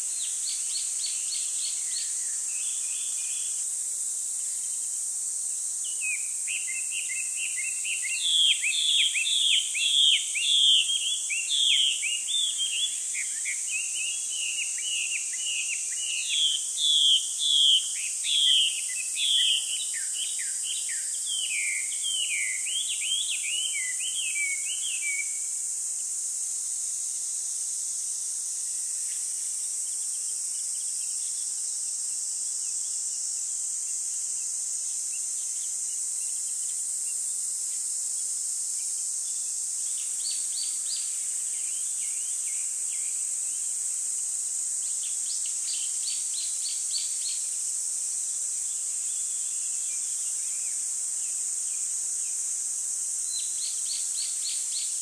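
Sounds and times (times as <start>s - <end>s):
steady high-pitched hiss: 0.0s - 55.0s.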